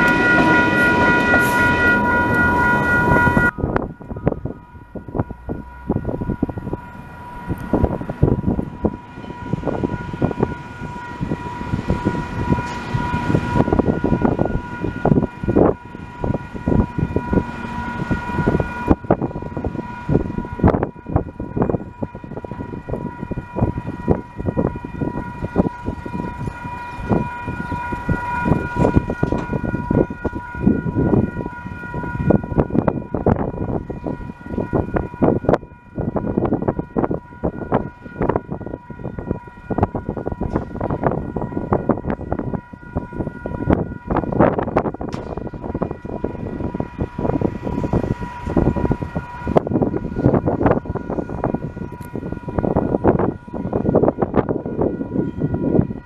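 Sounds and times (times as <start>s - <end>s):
diesel locomotives approaching: 0.0s - 56.0s
level crossing alarm tone: 0.0s - 56.0s
wind buffeting microphone: 0.0s - 56.0s.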